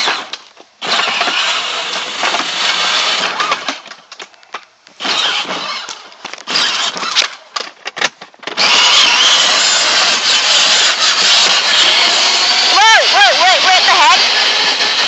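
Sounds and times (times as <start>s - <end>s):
toy car motor whirring: 0.0s - 3.8s, 5.0s - 7.4s, 8.6s - 15.0s.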